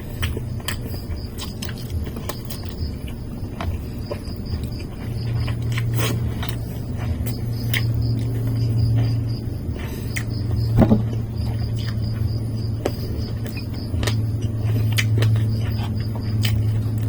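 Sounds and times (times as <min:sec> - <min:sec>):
chewing: 0:00.0 - 0:17.0
low hum: 0:00.0 - 0:17.0.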